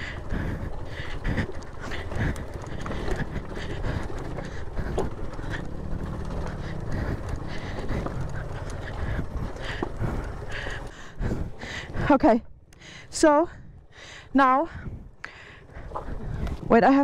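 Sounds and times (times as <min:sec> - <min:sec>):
motorcycle engine climbing: 0:00.0 - 0:17.0.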